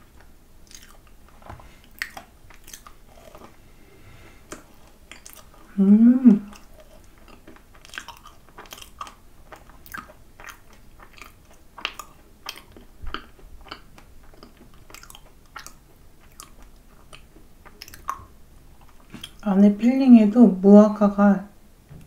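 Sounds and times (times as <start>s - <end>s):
person chewing: 0.0s - 19.4s.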